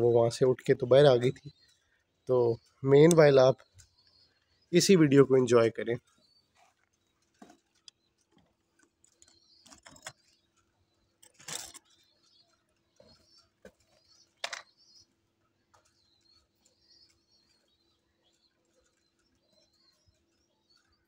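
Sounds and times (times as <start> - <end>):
pigeons pecking grain: 0.0 - 21.0.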